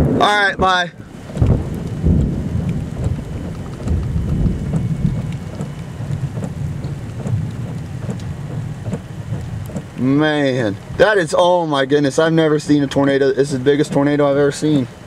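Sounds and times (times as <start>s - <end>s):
rain ticks: 0.0s - 15.0s
thunder rumbling: 0.0s - 15.0s
wind rumble: 0.0s - 15.0s.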